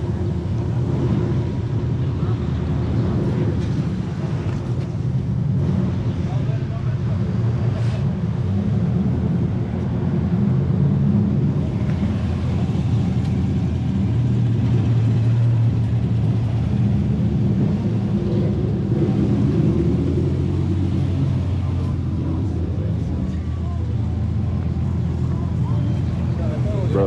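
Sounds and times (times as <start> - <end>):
car engine rumbling: 0.0 - 27.0.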